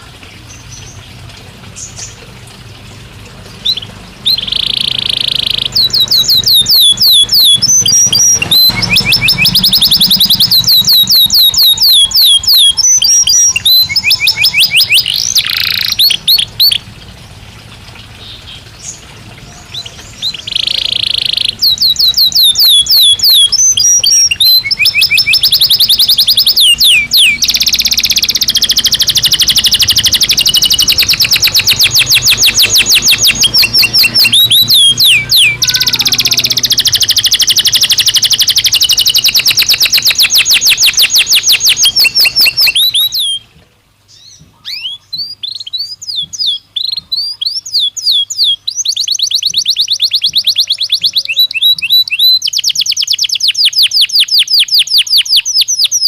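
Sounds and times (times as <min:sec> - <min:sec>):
canary singing trills: 0:00.0 - 0:17.2, 0:18.2 - 0:43.5, 0:44.1 - 0:56.0.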